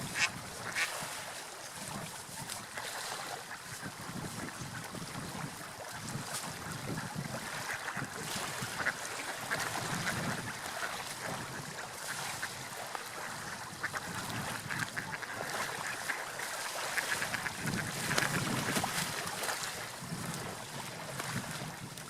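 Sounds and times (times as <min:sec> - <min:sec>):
sea waves: 0:00.0 - 0:22.0
wind: 0:00.0 - 0:22.0.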